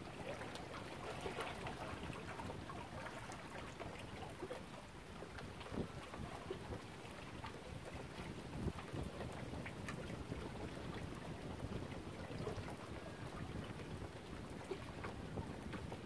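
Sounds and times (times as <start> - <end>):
water lapping against shore: 0.0 - 16.0
wind rumbling on microphone: 0.0 - 16.0.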